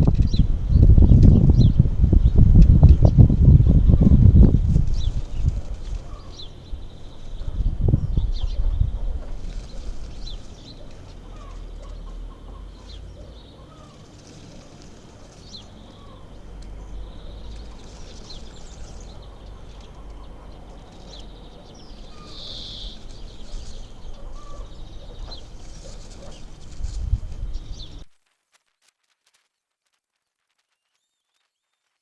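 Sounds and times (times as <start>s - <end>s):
steady low rumble: 0.0s - 28.0s
fluttering bird call: 0.1s - 28.1s.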